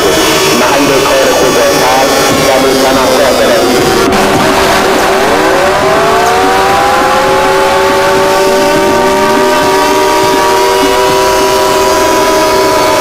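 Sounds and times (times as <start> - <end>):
electronic emergency alert alarm: 0.0 - 13.0.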